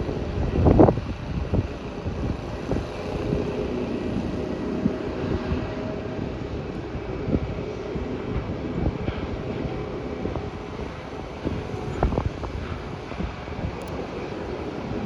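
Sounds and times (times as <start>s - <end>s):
distant aircraft engines humming: 0.0s - 15.0s
wind on microphone: 0.0s - 15.0s.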